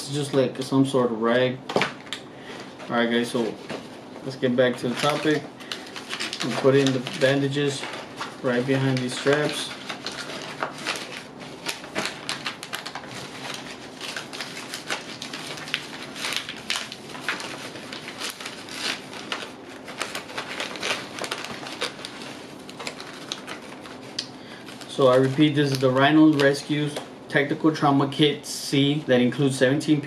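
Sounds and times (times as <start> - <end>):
plastic wrapping crinkling: 2.0 - 27.1.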